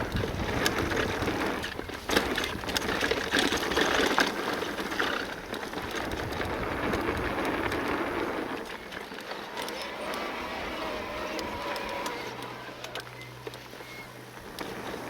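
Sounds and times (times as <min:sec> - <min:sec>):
bike rattling and knocking: 0:00.0 - 0:15.0.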